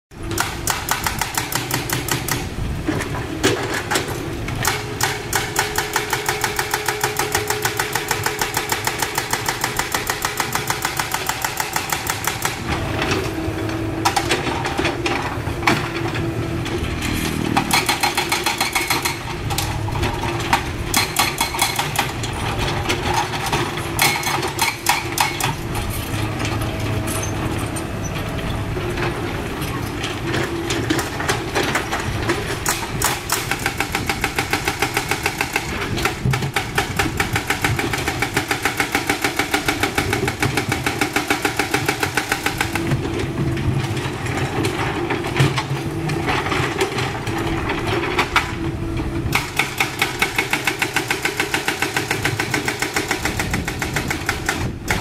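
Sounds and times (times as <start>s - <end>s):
excavator engine running: 0.2s - 55.0s.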